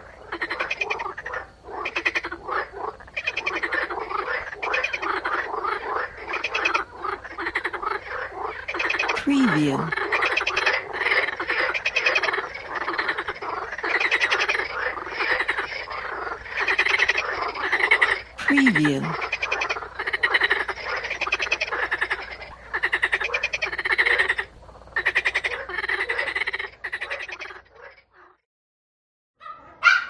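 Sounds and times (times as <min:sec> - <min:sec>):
frogs croaking: 0:00.0 - 0:28.4.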